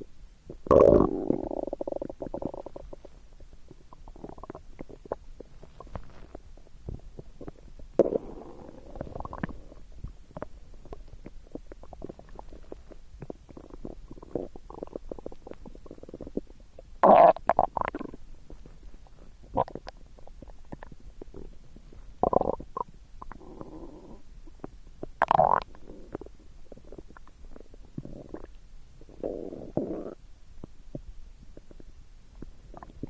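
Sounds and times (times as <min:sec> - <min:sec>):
stomach rumbling and gurgling: 0:00.0 - 0:33.0.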